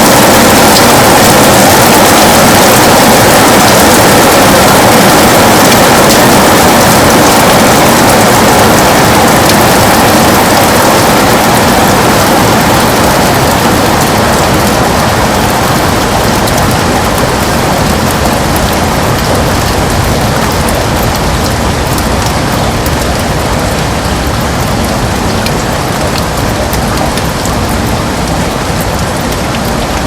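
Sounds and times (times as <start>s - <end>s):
heavy rain on a window: 0.0s - 30.0s.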